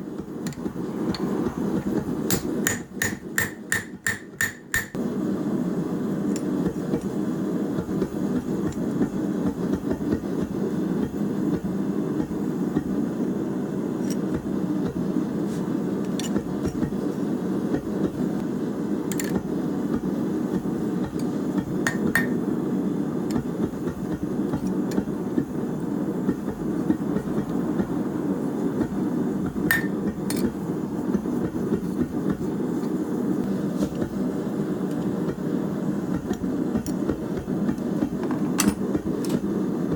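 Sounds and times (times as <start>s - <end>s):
forge running: 0.0s - 39.9s.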